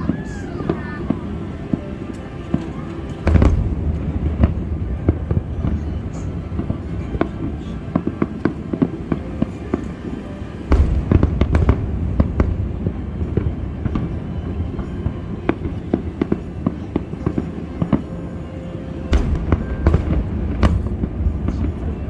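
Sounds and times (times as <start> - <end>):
continuous low rumble: 0.0 - 22.0
fireworks bangs and crackles: 0.0 - 22.0.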